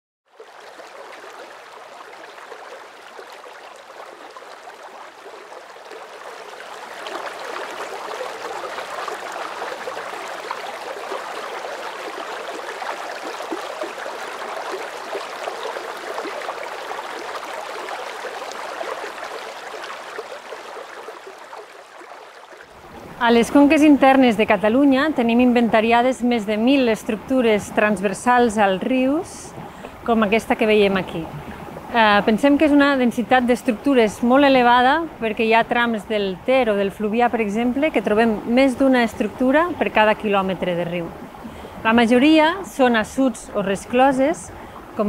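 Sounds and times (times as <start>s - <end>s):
water rushing and splashing: 0.3s - 45.0s.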